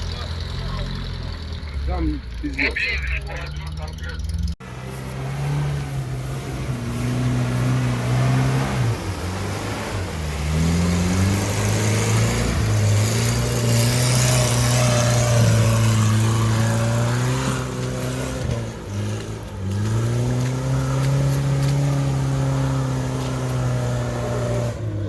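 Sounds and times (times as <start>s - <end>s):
van engine working hard: 0.0s - 25.0s.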